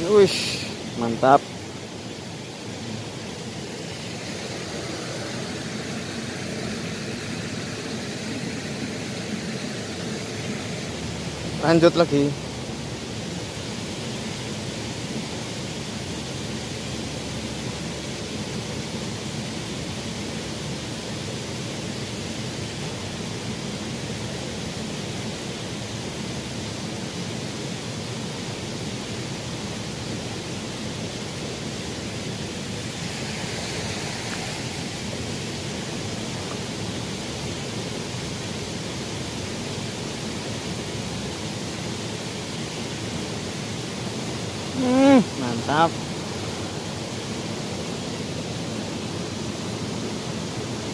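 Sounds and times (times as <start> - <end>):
stream water flowing: 0.0 - 50.9.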